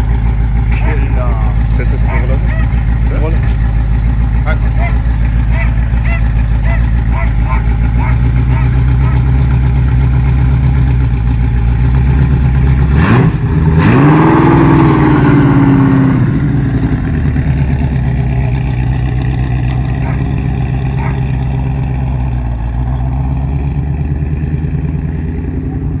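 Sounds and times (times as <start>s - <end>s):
engine idling and revving: 0.0s - 26.0s.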